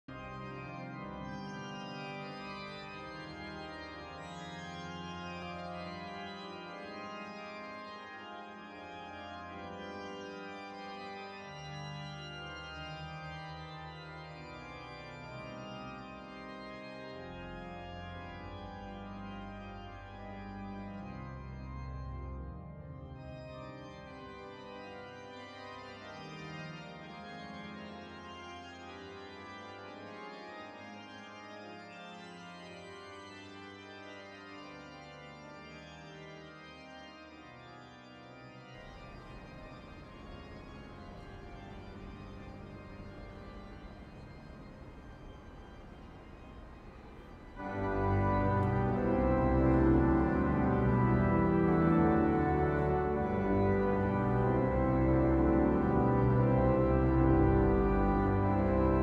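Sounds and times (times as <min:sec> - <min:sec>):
church organ chords: 0:00.1 - 0:59.0.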